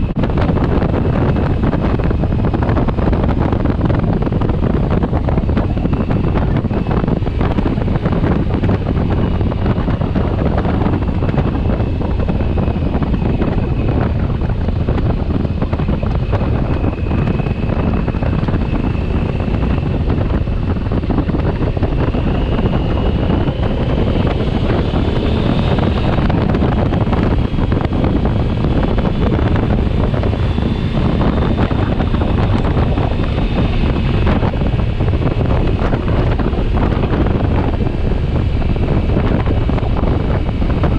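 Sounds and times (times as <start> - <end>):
motorcycle running: 0.0 - 40.9
wind buffeting microphone: 0.0 - 40.9.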